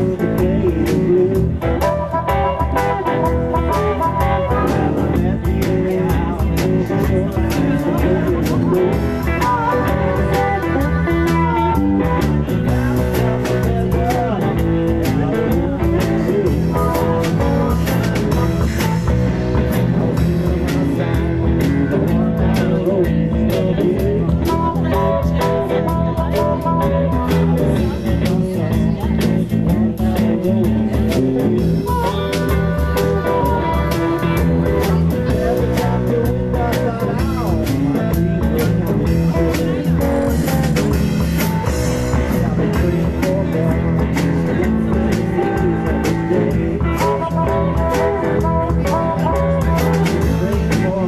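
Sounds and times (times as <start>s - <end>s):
drum kit beat: 0.0s - 51.0s
electric guitar: 0.0s - 51.0s.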